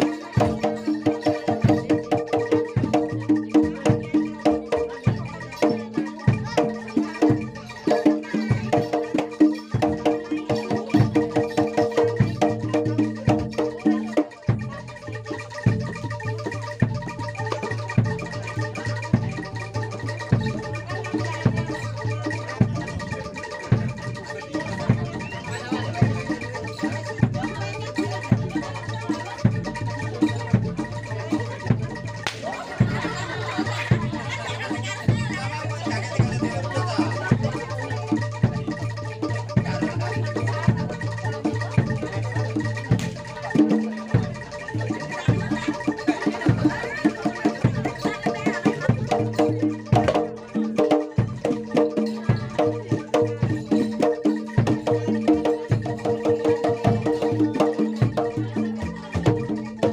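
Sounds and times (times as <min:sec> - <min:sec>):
hand drums: 0:00.0 - 0:59.9
pitched metal percussion: 0:00.0 - 0:59.9
ringing mallet metallophones: 0:00.0 - 0:59.9.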